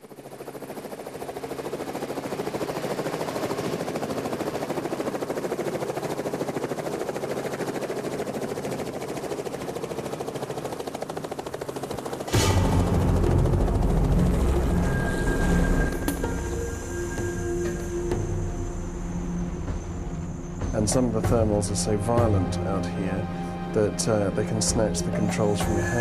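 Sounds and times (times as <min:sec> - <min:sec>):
helicopter rotor chopping: 0:00.0 - 0:26.0.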